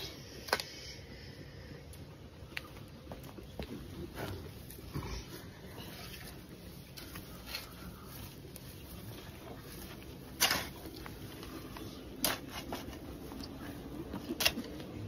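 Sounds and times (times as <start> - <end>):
rustling of grass and earth: 2.6 - 15.0.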